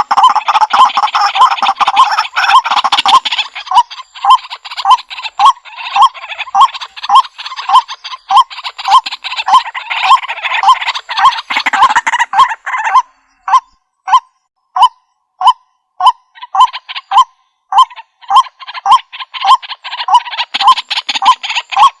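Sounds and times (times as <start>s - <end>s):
harsh bird chattering: 0.0s - 14.2s, 14.8s - 22.0s.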